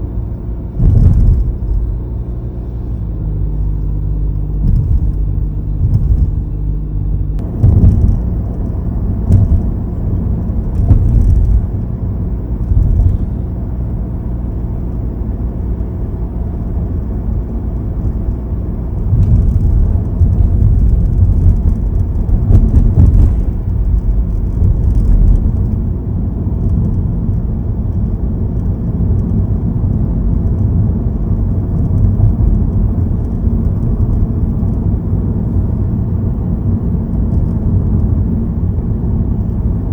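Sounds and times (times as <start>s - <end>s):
road rumble in car cabin: 0.0s - 39.9s.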